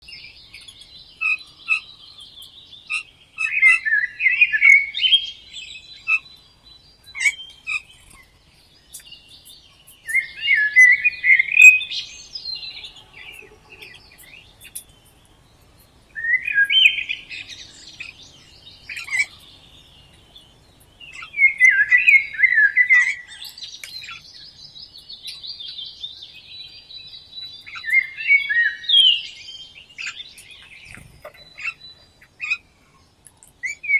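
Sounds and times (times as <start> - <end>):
faint bird chirps: 0.0 - 33.9
songbird warbling: 0.1 - 33.0.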